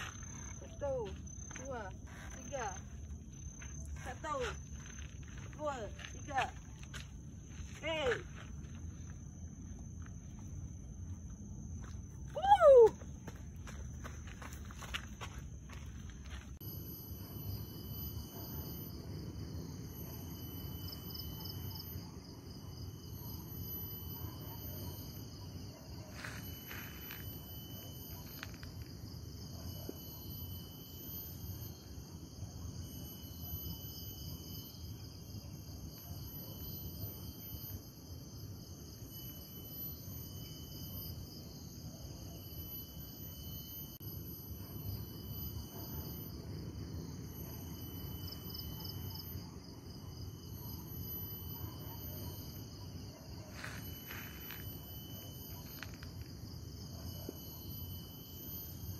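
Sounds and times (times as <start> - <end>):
insects and crickets shrilling: 0.0 - 58.9.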